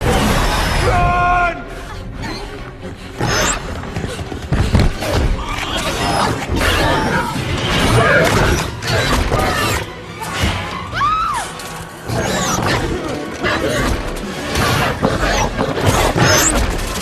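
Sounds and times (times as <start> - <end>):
action film music: 0.0 - 17.0.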